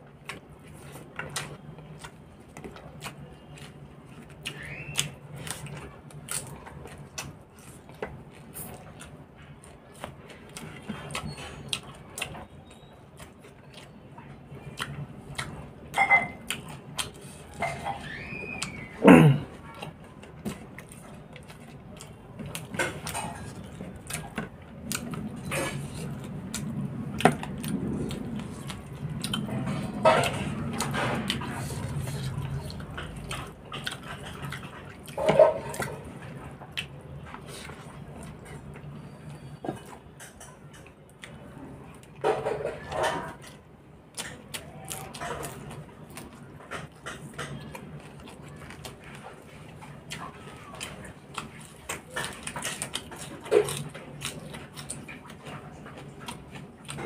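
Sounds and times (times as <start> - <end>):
chewing and lip smacks: 0.1 - 19.0, 19.7 - 57.0.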